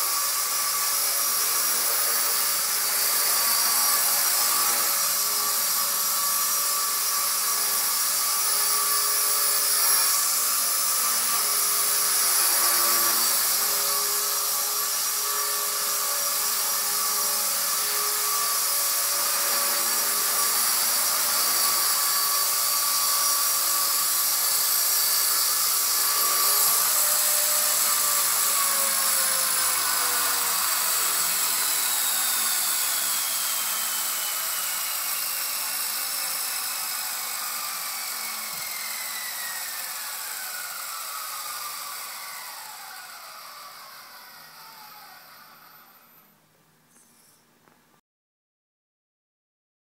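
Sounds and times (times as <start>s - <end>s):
rc helicopter motor whine: 0.0s - 46.4s.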